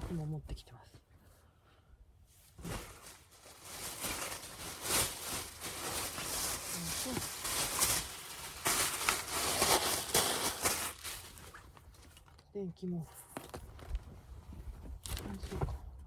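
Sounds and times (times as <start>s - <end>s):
blanket rustling and crinkling: 2.3s - 12.3s, 13.0s - 16.0s.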